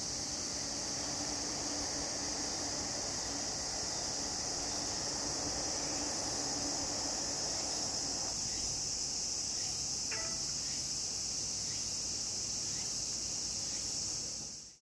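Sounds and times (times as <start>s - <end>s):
high-pitched insect chorus: 0.0s - 14.8s.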